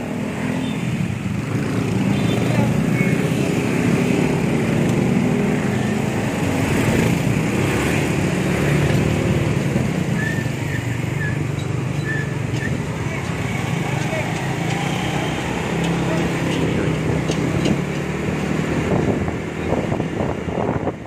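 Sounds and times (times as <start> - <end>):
motorcycle engines droning: 0.0 - 21.0
road noise: 0.0 - 21.0.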